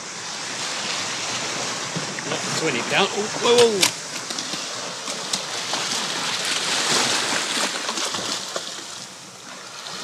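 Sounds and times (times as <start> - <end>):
sea waves washing over rocks: 0.0 - 10.0.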